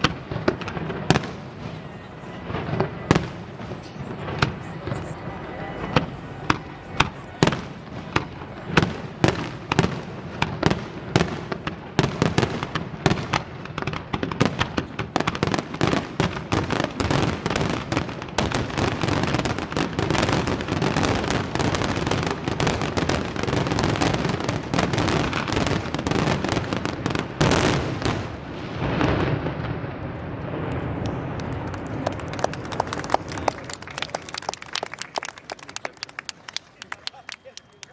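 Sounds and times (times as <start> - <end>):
fireworks crackling: 0.0 - 37.9.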